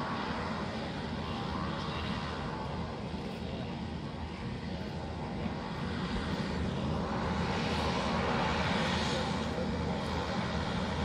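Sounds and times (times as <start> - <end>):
distant jet engines running: 0.0 - 11.0.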